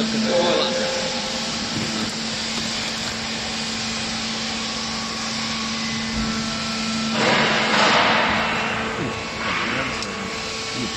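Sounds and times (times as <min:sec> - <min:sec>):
hydraulic baler motor humming: 0:00.0 - 0:10.9.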